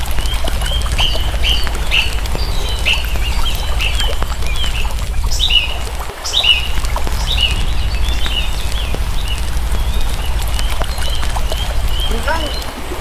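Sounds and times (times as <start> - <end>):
birds chirping: 0.0 - 13.0
faint clicks: 0.0 - 13.0
low rumble: 0.0 - 13.0.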